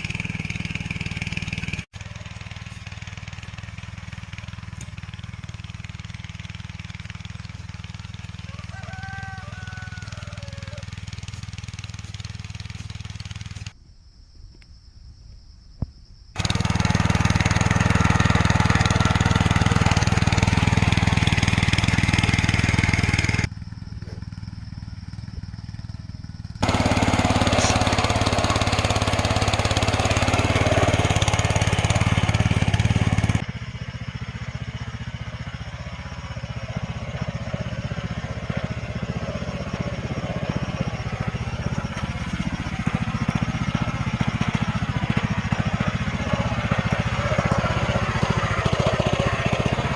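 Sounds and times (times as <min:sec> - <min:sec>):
small engine droning: 0:00.0 - 0:13.8, 0:16.4 - 0:49.9.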